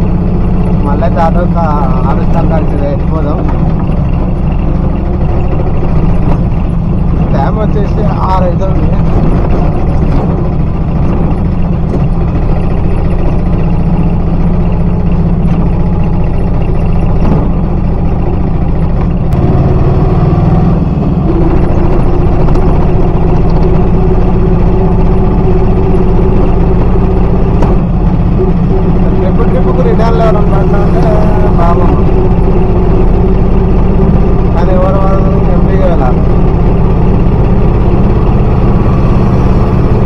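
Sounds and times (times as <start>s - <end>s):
auto rickshaw engine running: 0.0s - 40.0s
road rumble: 0.0s - 40.0s.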